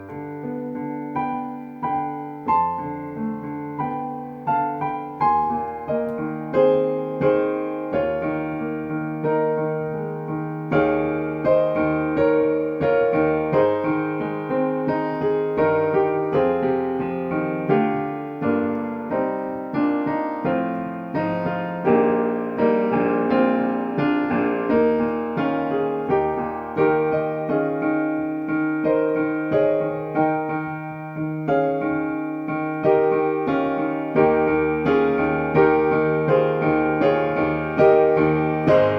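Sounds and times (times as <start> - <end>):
solo piano music: 0.0 - 38.9.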